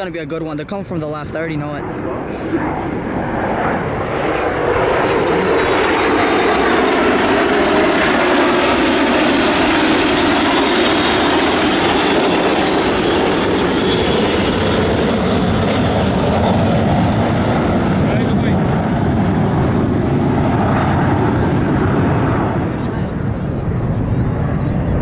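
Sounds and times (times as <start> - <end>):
jets roaring past: 0.0 - 25.0.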